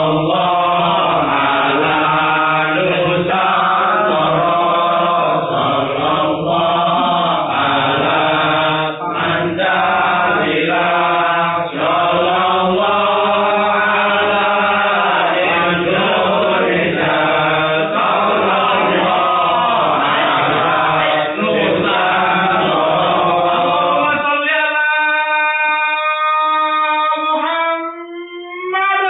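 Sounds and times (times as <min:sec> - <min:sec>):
group chanting religious chant: 0:00.0 - 0:27.9.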